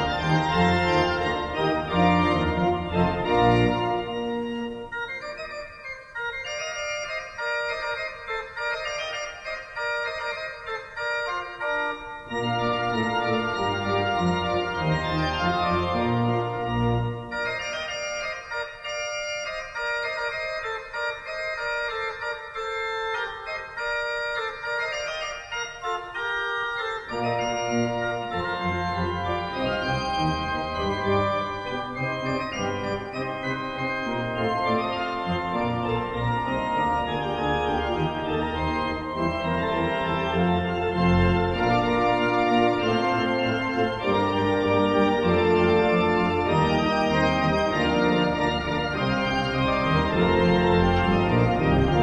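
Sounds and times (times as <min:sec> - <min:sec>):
pipe organ playing chords: 0:00.0 - 0:52.0.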